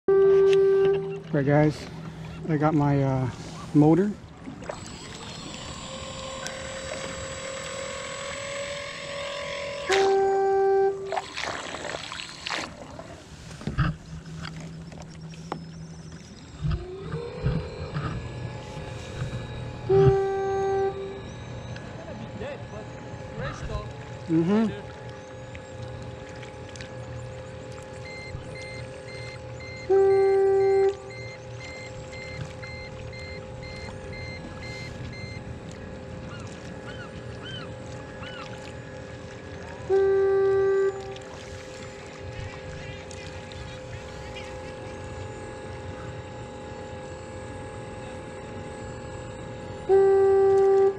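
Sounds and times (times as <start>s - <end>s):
water churning: 0.1s - 50.9s
electric motor humming: 0.2s - 50.9s.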